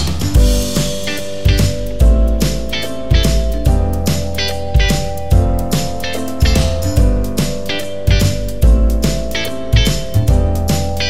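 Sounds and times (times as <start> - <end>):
bass notes: 0.0 - 11.0
guitar: 0.0 - 11.0
steady beat: 0.0 - 11.0.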